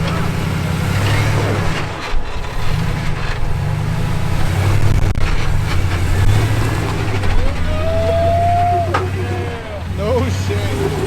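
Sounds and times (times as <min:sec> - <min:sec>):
off-road vehicle engine low revs: 0:00.0 - 0:11.0.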